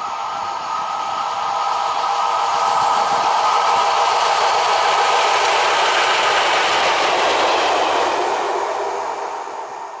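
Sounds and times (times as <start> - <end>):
diesel locomotive passing: 0.0 - 10.0.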